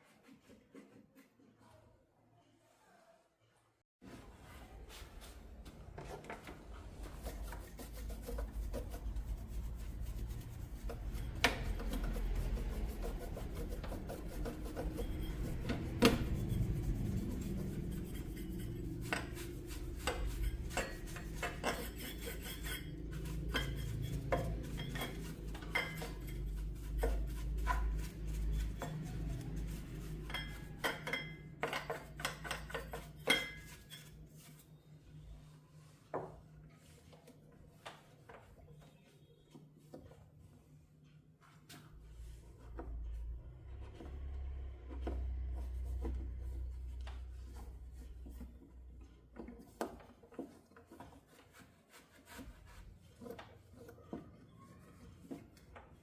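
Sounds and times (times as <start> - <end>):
scraping and rubbing: 4.1 - 56.0.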